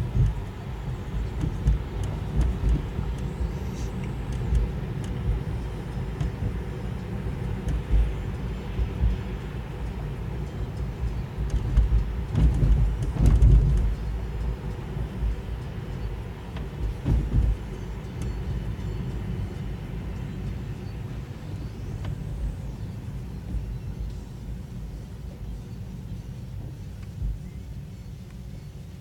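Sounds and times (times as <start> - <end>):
tyre and road rumble: 0.0 - 24.1.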